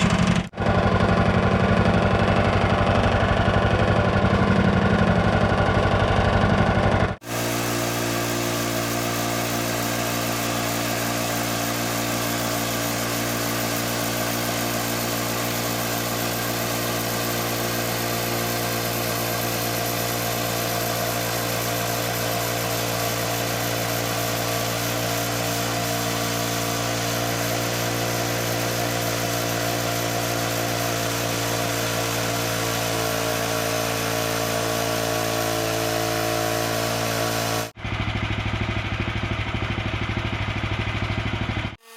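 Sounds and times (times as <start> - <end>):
sawmill engine running steadily: 0.0 - 41.9.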